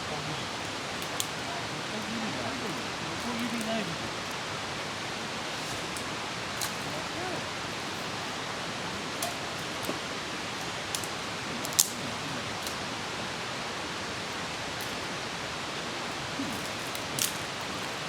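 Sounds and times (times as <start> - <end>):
fast river rushing: 0.0 - 18.0.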